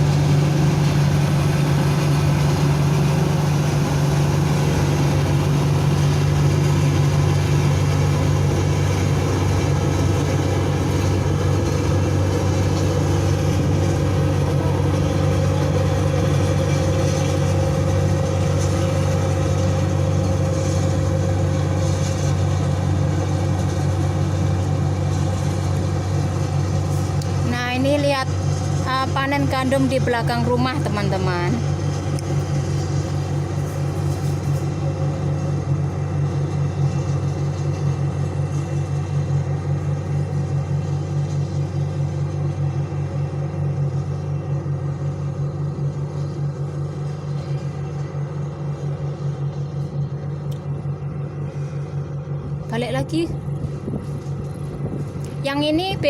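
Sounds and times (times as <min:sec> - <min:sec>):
combine harvester engine drone: 0:00.0 - 0:56.0
high steady whine: 0:00.0 - 0:56.0.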